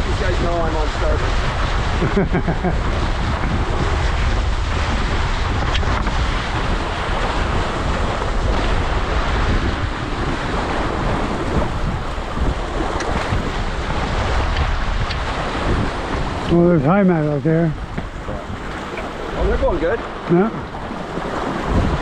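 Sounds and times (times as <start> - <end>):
water slapping against hulls: 0.0 - 22.0
wind buffeting microphone: 0.0 - 22.0.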